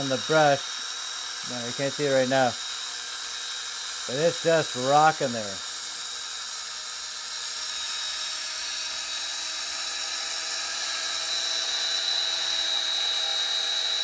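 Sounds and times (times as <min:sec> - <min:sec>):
electric motor high-pitched whine: 0:00.0 - 0:14.0.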